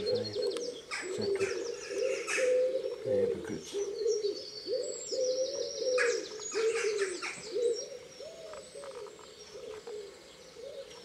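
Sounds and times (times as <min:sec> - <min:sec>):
songbird singing high trills: 0:00.0 - 0:11.0.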